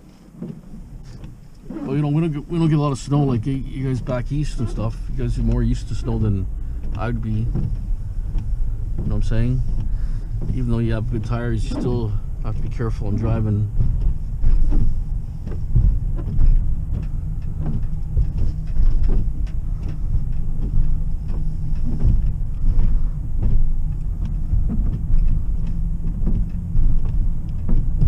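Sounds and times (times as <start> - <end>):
faint ticks and knocks: 0.0 - 28.0
tyres and engine rumbling: 0.0 - 28.0.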